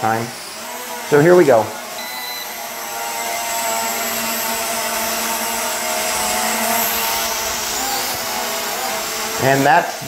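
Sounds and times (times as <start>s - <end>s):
quadcopter propellers buzzing: 0.0s - 10.0s.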